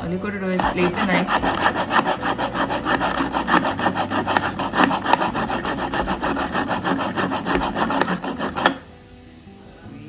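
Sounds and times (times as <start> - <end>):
knife rasping through sharpener: 0.6 - 8.8.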